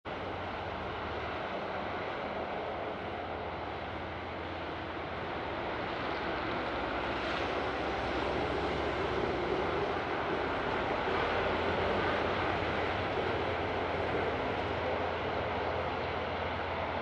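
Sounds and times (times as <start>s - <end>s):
train rumbling: 0.1s - 17.0s.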